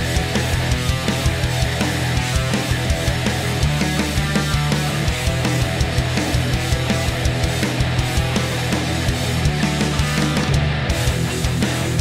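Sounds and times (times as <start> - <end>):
heavy rock music: 0.0 - 12.0.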